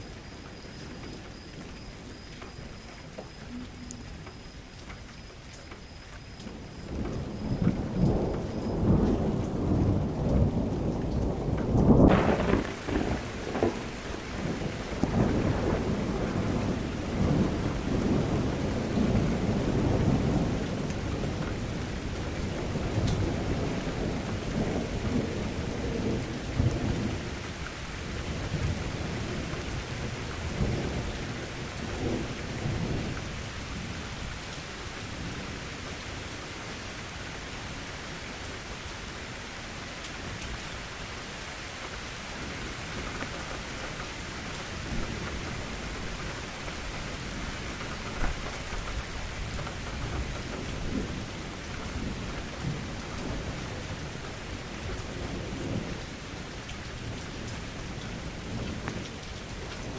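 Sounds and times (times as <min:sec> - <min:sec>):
steady rain: 0:00.0 - 0:59.9
thunder rumbling: 0:05.7 - 0:39.3, 0:40.1 - 0:59.9.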